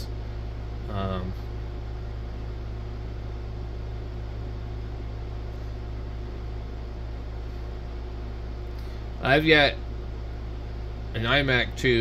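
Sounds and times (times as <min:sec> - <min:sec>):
fan-like hiss of equipment: 0:00.0 - 0:12.0
low electrical hum: 0:00.0 - 0:12.0.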